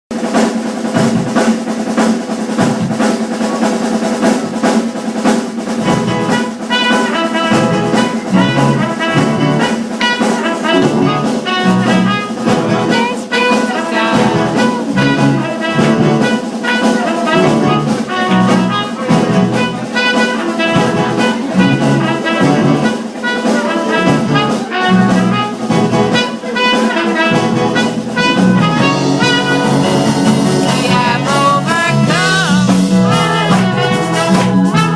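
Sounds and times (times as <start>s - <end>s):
band playing melody: 0.1s - 34.9s
steady drum beat: 0.1s - 34.9s.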